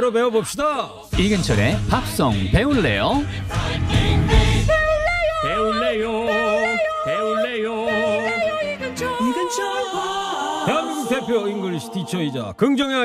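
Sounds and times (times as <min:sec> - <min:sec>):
backing music: 0:01.1 - 0:13.0
voices singing jingle: 0:01.6 - 0:12.7.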